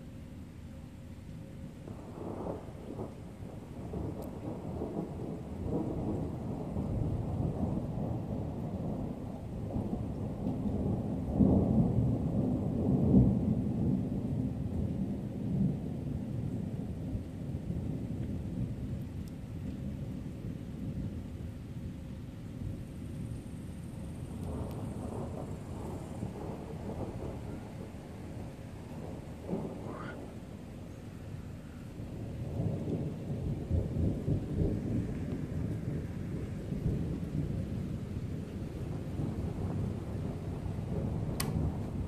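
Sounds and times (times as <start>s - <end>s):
thunder rolling: 1.9s - 18.8s, 22.9s - 42.0s.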